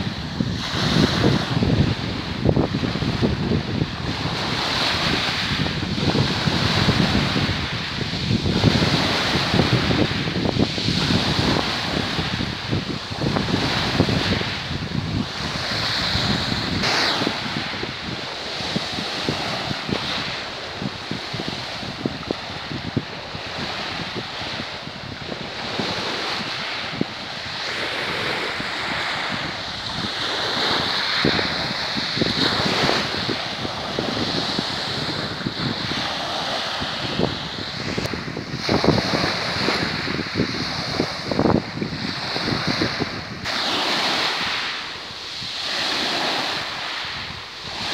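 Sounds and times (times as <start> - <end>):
waves washing over pebbles: 0.0 - 47.9
wind rumbling on microphone: 0.0 - 47.9.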